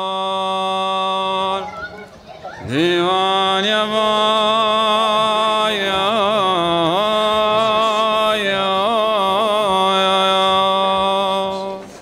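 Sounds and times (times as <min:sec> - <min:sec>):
man chanting a hymn: 0:00.0 - 0:01.8, 0:02.6 - 0:12.0.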